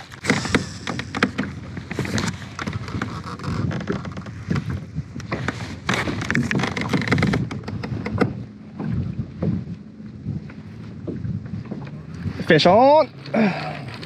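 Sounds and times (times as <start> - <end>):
wind gusting on microphone: 0.0 - 13.2
water lapping against kayak hull: 0.0 - 14.0.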